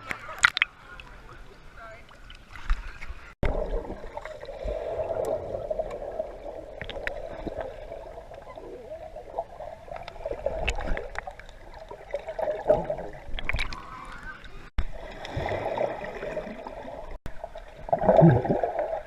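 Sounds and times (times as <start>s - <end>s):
muffled underwater water swirling: 0.2s - 19.0s.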